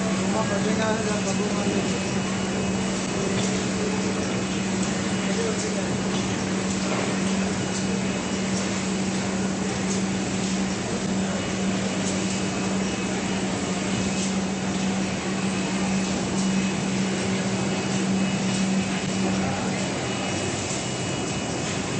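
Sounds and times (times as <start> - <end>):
printing machine humming: 0.0 - 21.9.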